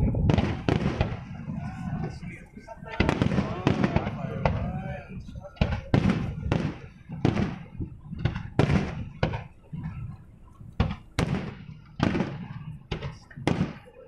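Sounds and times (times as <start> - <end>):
fireworks booming with echo: 0.0 - 14.0.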